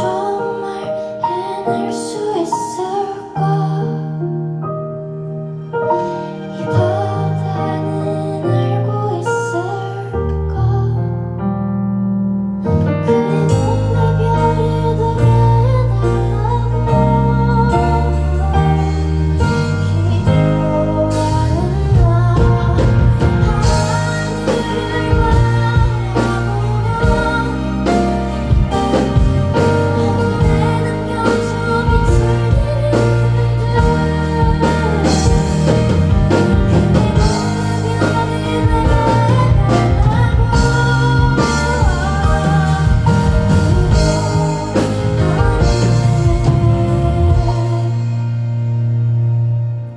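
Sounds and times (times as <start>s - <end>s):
live band pop song: 0.0s - 4.2s, 5.7s - 11.0s, 12.7s - 49.9s
person singing: 0.0s - 4.6s, 5.6s - 11.4s, 12.6s - 48.7s.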